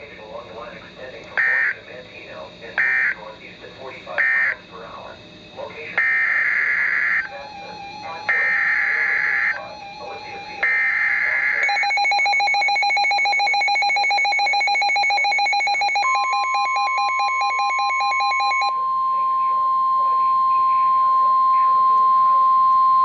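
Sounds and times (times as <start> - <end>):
radio alarm pulsing beeps: 1.0 - 2.0, 2.6 - 23.0.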